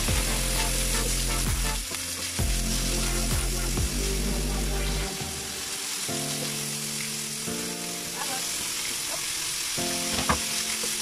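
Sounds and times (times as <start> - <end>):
background music with sustained chords: 0.0 - 11.0
food sizzling in a pan: 0.0 - 11.0.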